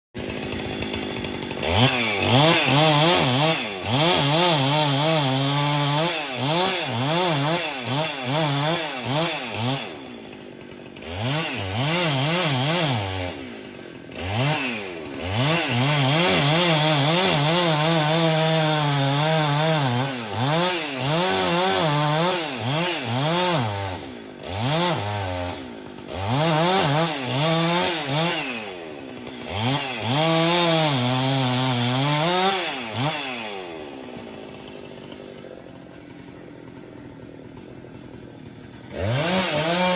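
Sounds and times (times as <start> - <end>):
chainsaw cutting wood: 0.2 - 39.9.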